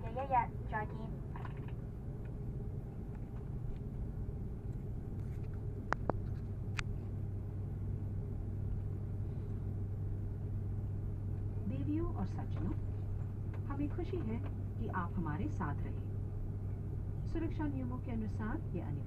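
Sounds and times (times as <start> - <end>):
aircraft cabin rumble and hum: 0.0 - 19.0.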